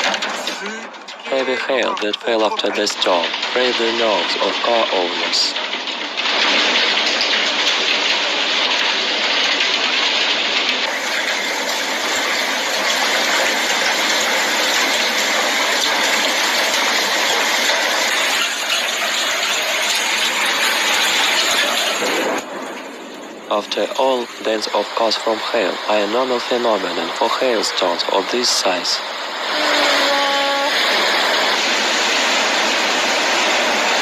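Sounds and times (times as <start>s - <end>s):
heavy hail pelting: 0.0s - 34.0s.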